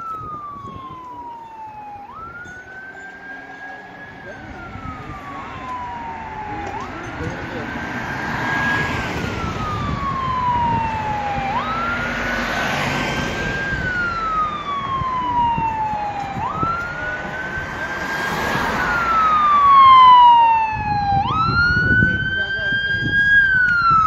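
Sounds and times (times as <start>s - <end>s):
emergency siren slow wail: 0.0s - 24.0s.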